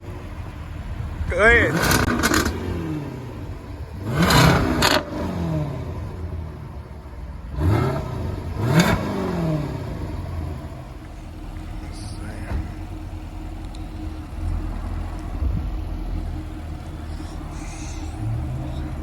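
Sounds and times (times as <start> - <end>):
car exhaust revving: 0.0 - 19.0
low idle rumble: 0.0 - 19.0.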